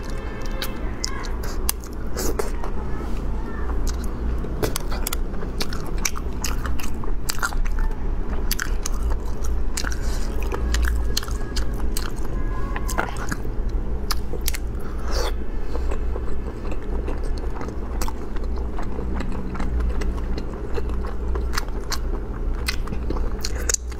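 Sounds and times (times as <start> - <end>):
chewing and biting: 3.8 - 12.3, 12.9 - 23.9.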